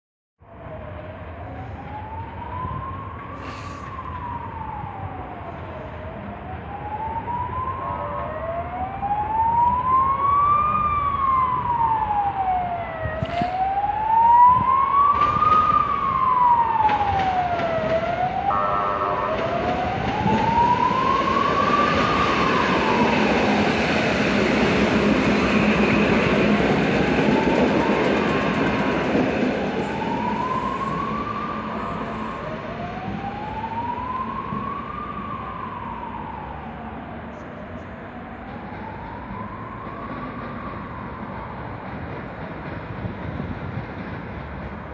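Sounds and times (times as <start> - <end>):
siren wailing: 0.5 - 41.8
train rumbling and rattling past: 0.5 - 44.9.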